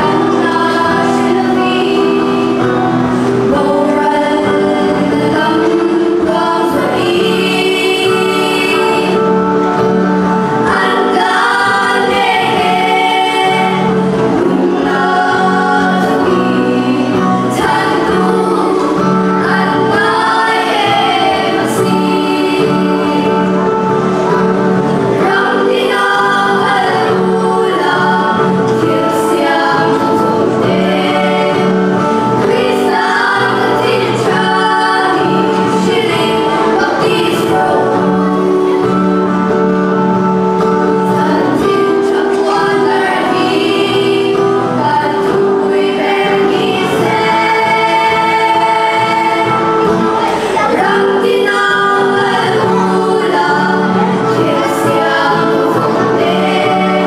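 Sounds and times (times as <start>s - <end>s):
girls singing gospel in unison: 0.0s - 57.0s.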